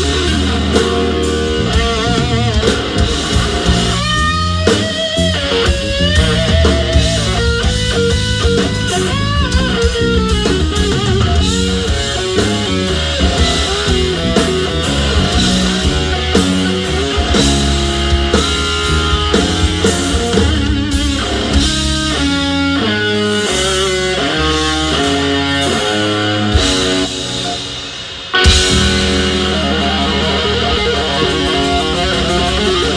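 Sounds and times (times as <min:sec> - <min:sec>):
bass guitar: 0:00.0 - 0:32.9
drums with cymbals: 0:00.0 - 0:32.9
electric guitar lead: 0:00.0 - 0:32.9.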